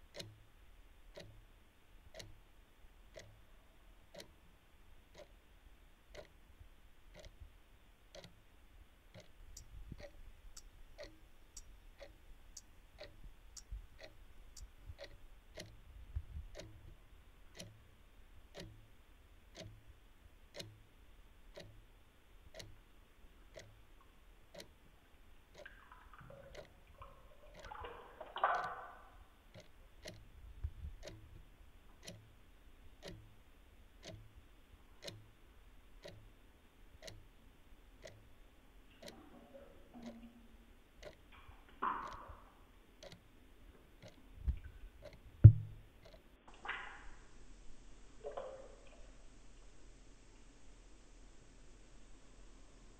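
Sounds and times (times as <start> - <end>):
clock ticking: 0.0 - 4.4, 5.0 - 47.0.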